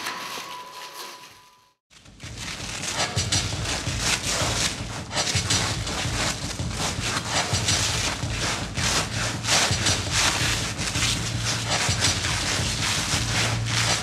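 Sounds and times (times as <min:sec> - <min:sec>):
velcro rasping and tearing: 0:02.0 - 0:14.0.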